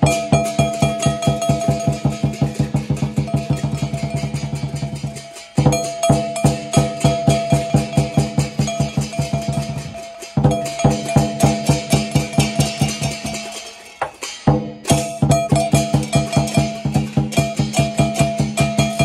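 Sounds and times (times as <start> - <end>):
brass cymbals clashing: 0.0 - 19.0
drum beaten in fast beat: 0.0 - 19.0.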